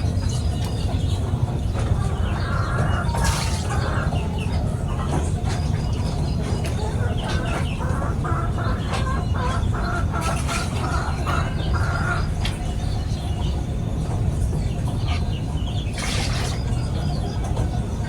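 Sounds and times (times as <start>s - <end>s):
chickens clucking: 0.0s - 18.0s
small birds chirping: 0.0s - 18.0s.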